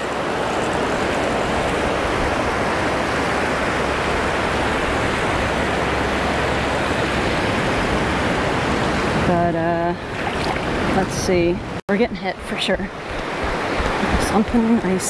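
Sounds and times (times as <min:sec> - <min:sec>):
ocean surf breaking: 0:00.0 - 0:11.8, 0:12.4 - 0:15.0.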